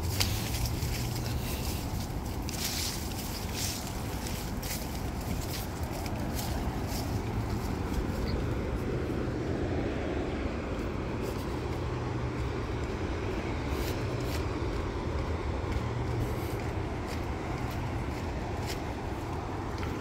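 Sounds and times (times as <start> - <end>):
footsteps on dirt trail: 0.0 - 20.0.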